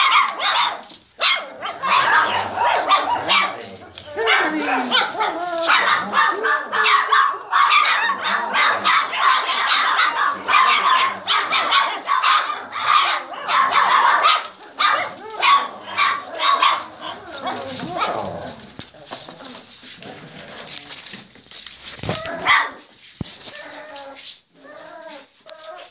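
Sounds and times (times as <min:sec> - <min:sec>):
puppies yapping: 0:00.0 - 0:25.9.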